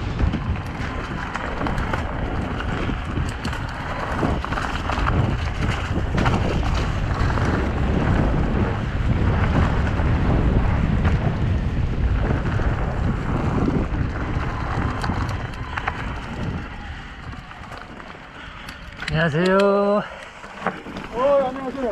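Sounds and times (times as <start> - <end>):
bike clattering: 0.0 - 21.9
bike tyres rumbling on dirt: 0.0 - 21.9
wind buffeting microphone: 0.0 - 21.9.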